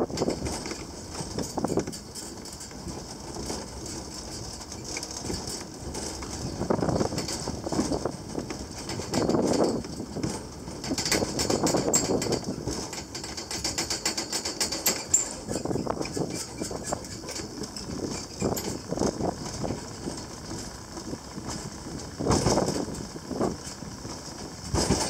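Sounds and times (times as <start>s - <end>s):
funicular car rattling and creaking: 0.0s - 25.0s
rumbling bumps: 0.0s - 25.0s.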